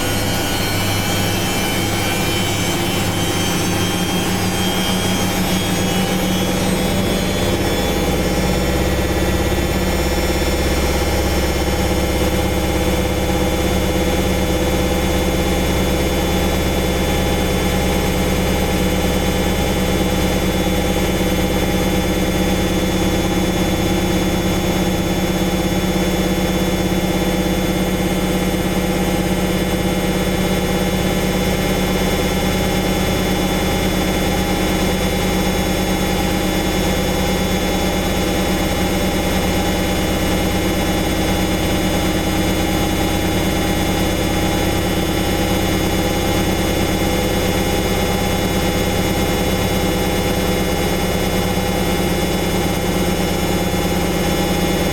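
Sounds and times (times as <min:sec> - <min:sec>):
washing machine spinning: 0:00.0 - 0:54.9.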